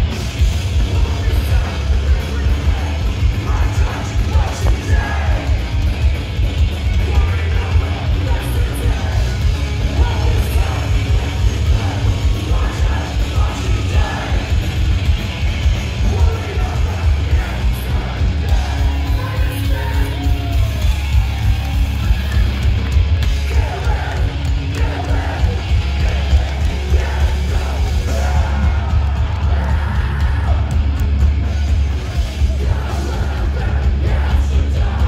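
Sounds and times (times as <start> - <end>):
punk band playing live: 0.0 - 35.0
singer yelling: 0.8 - 5.8, 6.8 - 14.8, 15.6 - 30.9.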